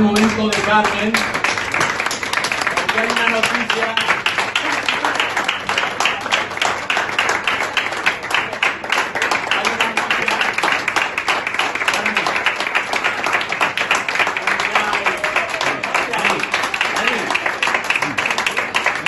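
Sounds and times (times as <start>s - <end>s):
people clapping and applauding: 0.0s - 19.0s.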